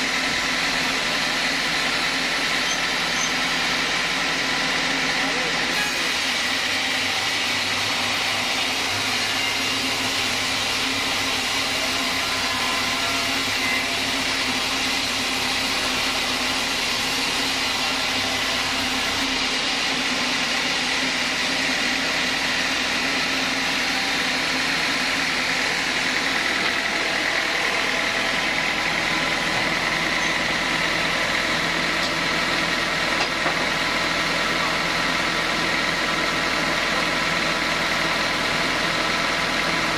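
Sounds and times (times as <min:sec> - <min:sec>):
band sawmill humming and whining: 0:00.0 - 0:39.9.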